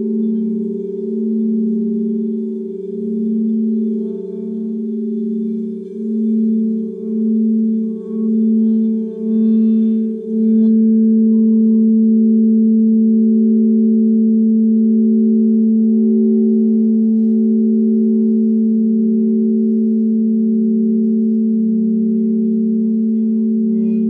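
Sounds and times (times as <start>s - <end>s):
crystal singing bowls: 0.0s - 24.0s.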